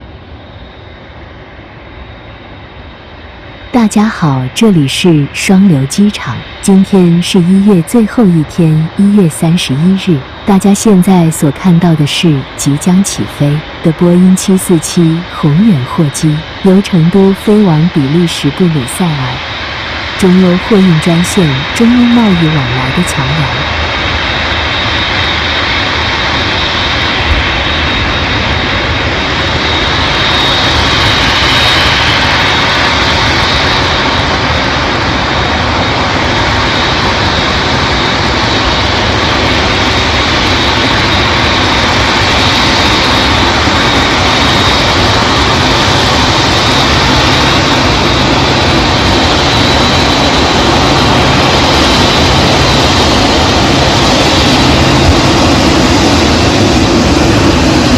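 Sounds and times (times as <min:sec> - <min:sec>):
jet engines roaring for takeoff: 0:00.0 - 0:57.9.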